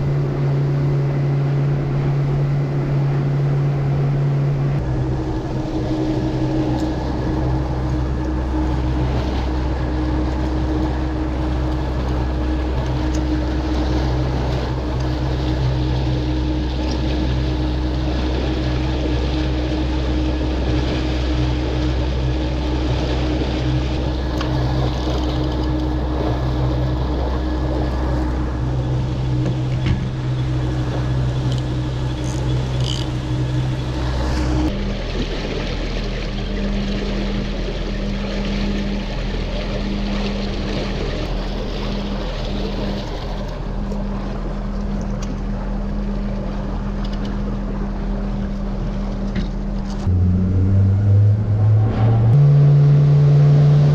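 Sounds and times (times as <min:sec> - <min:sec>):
outboard motor running: 0:00.0 - 0:53.9
water rushing past hull: 0:00.0 - 0:53.9.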